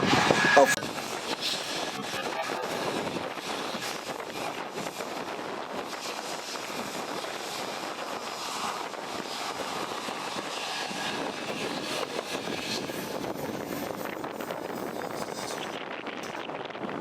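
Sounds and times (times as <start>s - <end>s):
aircraft engine drone overhead: 0.0s - 17.0s.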